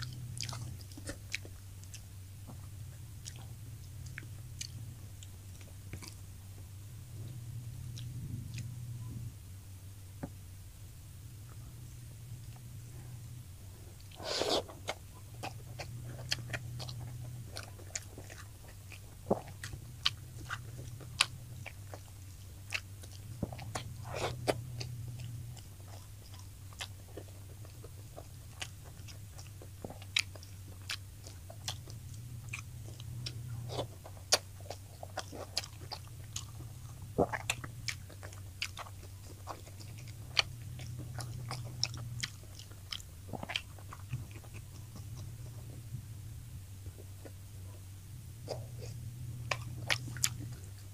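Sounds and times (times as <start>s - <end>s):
chewing with crunches: 0.0s - 10.5s, 11.1s - 50.9s
low hum: 0.0s - 50.9s.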